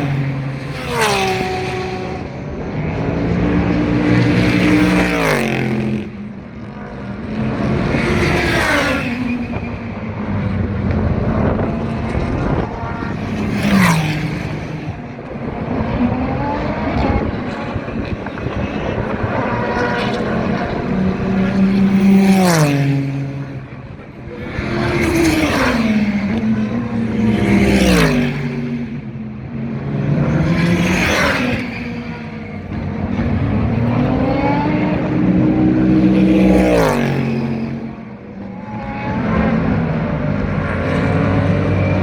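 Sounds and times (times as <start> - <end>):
race cars passing: 0.0 - 42.0.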